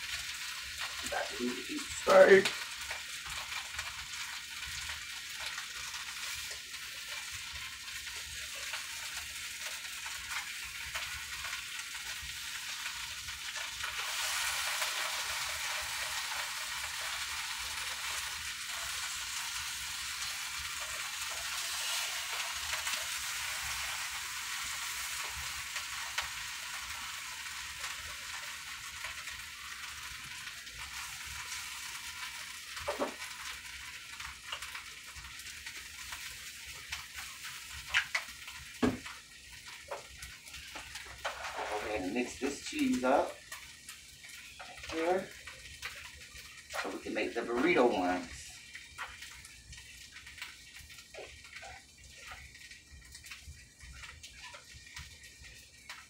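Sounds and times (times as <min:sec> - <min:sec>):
food sizzling in a frying pan: 0:00.0 - 0:56.0.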